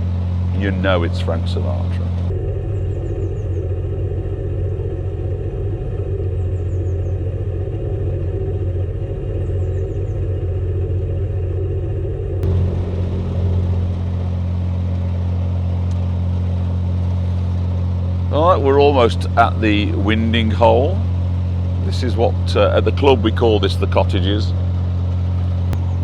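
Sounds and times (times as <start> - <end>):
boat diesel engine humming: 0.0 - 26.0.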